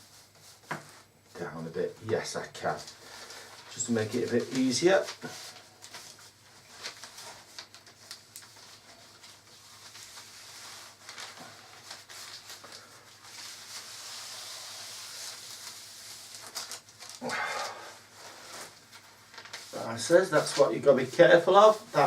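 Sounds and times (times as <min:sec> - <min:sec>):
paper rustling and sliding: 0:02.2 - 0:22.0.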